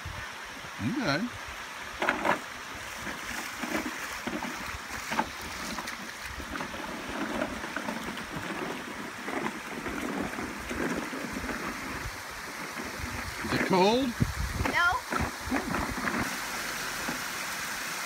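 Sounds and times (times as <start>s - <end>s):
creek water rushing over stones: 0.0s - 18.0s
splashes from wading: 1.9s - 18.0s
wind on microphone: 2.7s - 17.2s.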